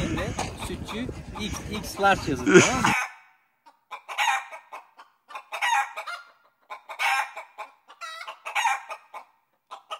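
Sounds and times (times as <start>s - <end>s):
chickens clucking: 0.0s - 9.9s.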